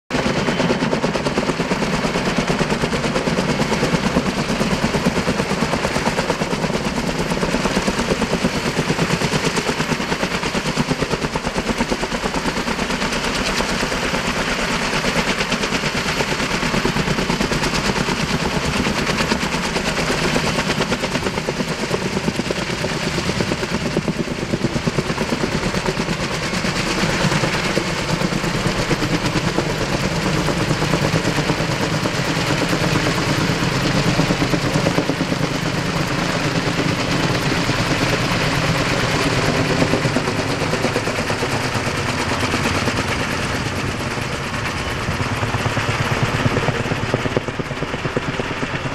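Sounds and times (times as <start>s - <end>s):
helicopter rotor chop: 0.1s - 48.9s.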